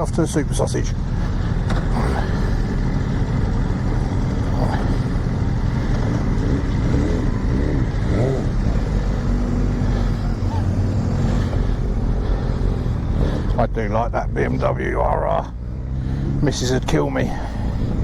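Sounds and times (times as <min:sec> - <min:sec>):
motorcycle engine rumble: 0:00.0 - 0:18.0
road noise: 0:00.0 - 0:18.0.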